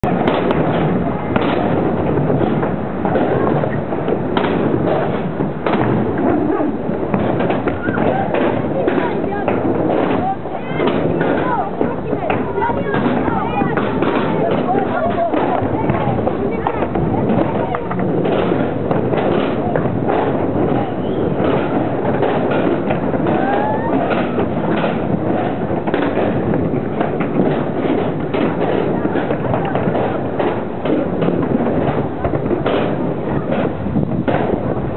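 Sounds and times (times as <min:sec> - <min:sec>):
skateboard wheels rolling on concrete: 0:00.0 - 0:34.9
skateboards clacking on ground: 0:00.0 - 0:34.9.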